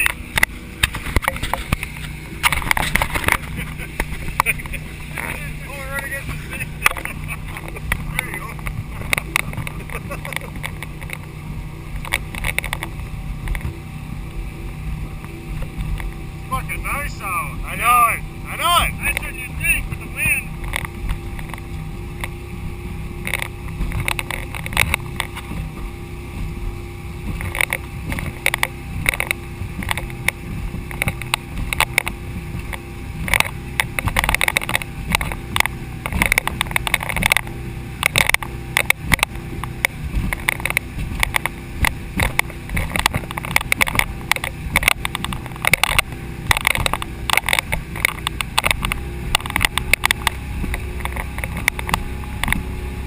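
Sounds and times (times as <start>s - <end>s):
knocks and splashes: 0.0s - 16.8s, 18.2s - 53.0s
water slapping against hull: 0.0s - 53.0s.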